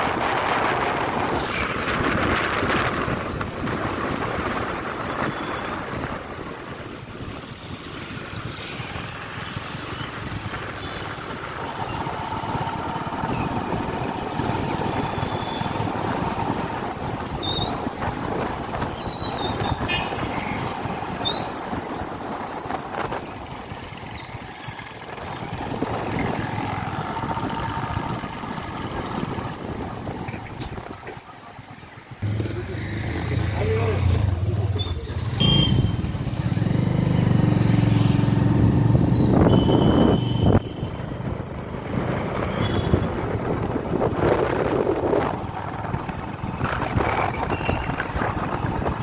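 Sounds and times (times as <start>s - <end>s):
motorcycle engine: 7.4s - 49.0s.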